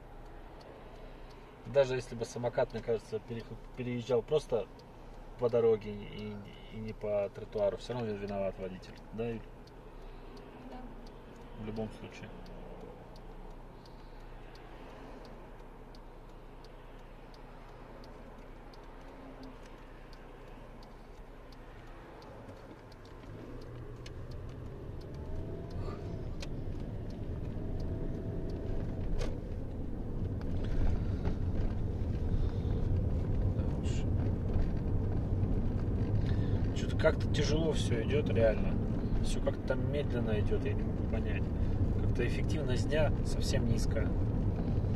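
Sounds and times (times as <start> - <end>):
car engine idling: 0.0 - 44.9
engine and road rumble: 0.0 - 44.9.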